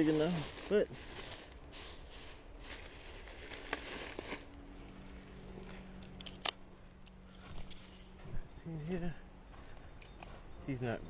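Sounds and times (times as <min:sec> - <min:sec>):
rustling and handling noises: 0:00.0 - 0:06.5, 0:07.2 - 0:10.8
faint low hum: 0:00.0 - 0:11.0.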